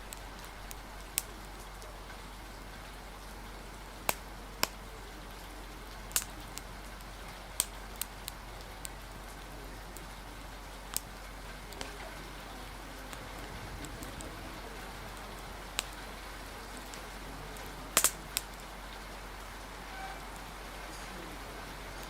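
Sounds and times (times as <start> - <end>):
rain hissing: 0.0 - 22.0
wood fire crackling pops: 0.0 - 22.0.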